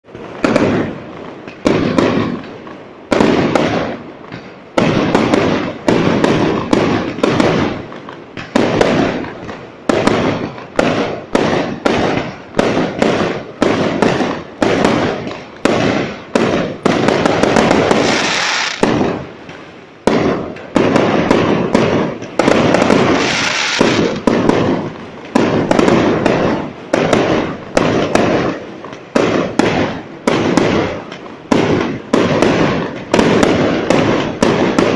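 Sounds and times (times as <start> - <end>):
fireworks bangs: 0.0 - 34.9
fireworks crackling: 0.0 - 34.9.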